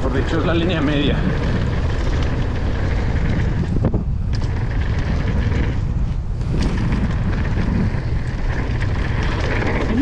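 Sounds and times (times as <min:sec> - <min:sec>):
bike rattles and clicks: 0:00.0 - 0:10.0
tyres rumbling on dirt trail: 0:00.0 - 0:10.0
wind buffeting microphone: 0:00.0 - 0:10.0.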